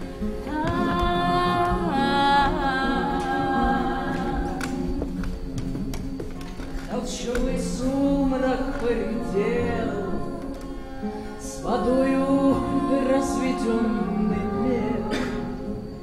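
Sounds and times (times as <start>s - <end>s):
person singing: 0.0s - 5.4s, 6.8s - 16.0s.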